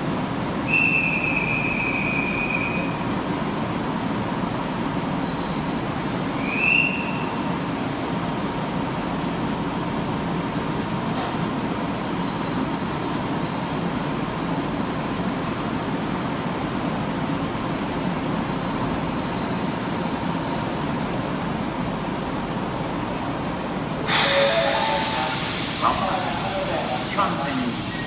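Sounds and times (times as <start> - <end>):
train equipment hum and hiss: 0.0 - 28.0.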